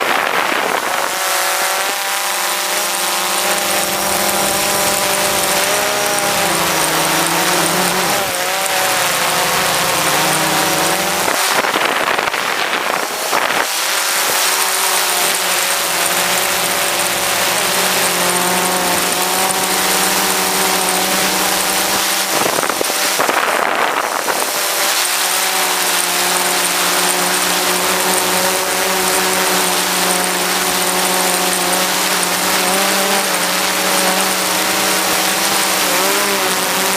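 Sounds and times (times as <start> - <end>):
drone propellers humming: 0.0 - 36.9.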